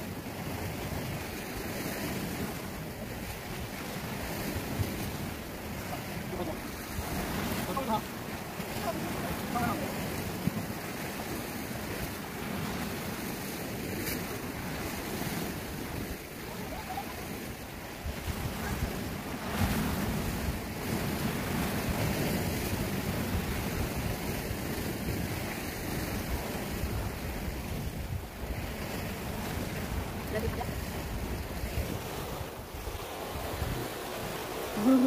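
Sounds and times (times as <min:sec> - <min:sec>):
waves breaking on rocks: 0:00.0 - 0:35.0
wind buffeting microphone: 0:00.0 - 0:35.0.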